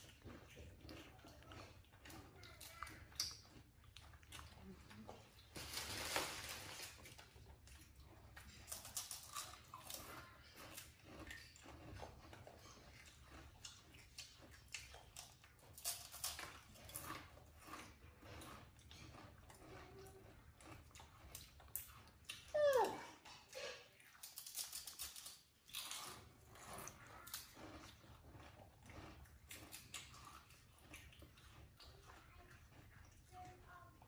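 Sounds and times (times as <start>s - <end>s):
wafer cookies crunched and chewed: 0.0s - 34.0s.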